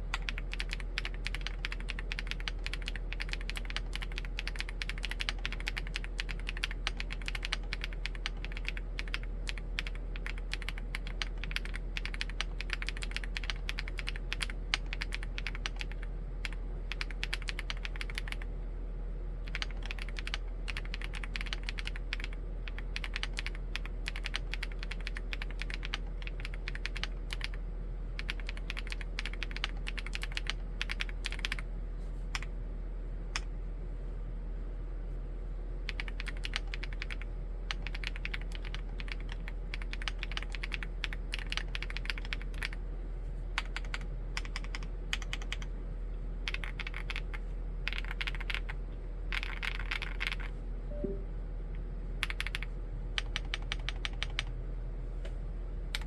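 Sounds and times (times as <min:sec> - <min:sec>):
mechanical keyboard typing: 0:00.1 - 0:18.4, 0:19.4 - 0:27.6, 0:28.2 - 0:31.6, 0:35.9 - 0:42.8, 0:43.6 - 0:45.7, 0:46.4 - 0:50.5, 0:52.2 - 0:54.5.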